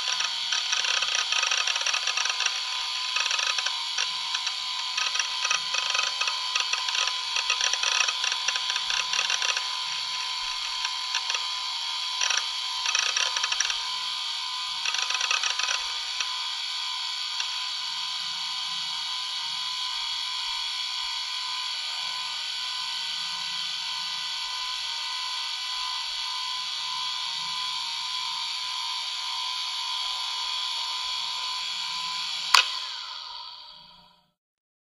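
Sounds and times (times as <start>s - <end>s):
laptop fan whir: 0.0s - 34.2s.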